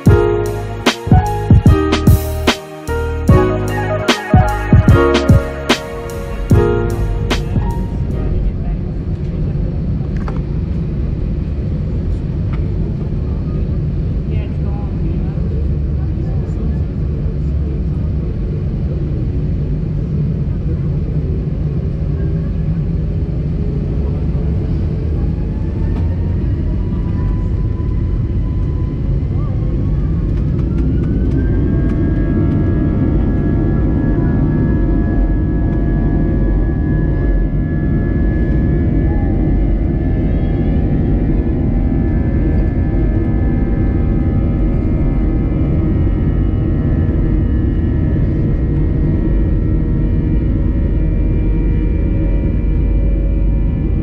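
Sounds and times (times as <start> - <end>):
faint jet engine whine: 4.3 - 54.0
aircraft cabin rumble: 5.9 - 54.0.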